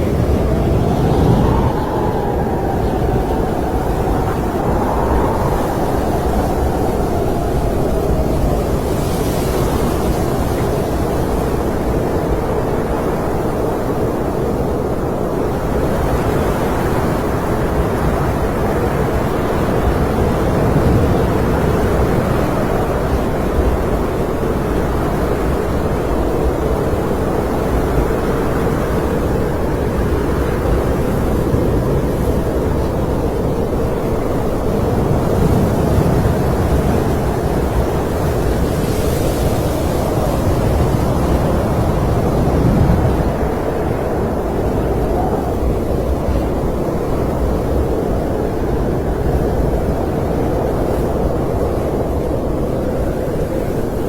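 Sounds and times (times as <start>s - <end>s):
snowstorm wind blowing: 0.0s - 54.0s.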